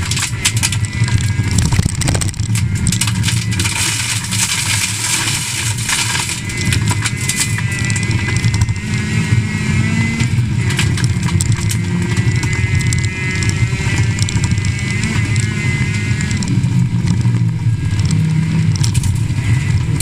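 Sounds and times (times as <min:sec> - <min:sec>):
gravel clattering against underbody: 0:00.0 - 0:09.0, 0:10.2 - 0:20.0
car engine running hard: 0:00.0 - 0:20.0.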